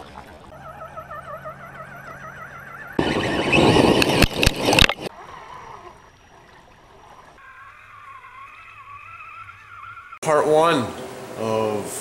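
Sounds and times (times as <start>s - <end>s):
water splashing: 0.0s - 9.9s
warbling electronic tone: 0.0s - 10.2s.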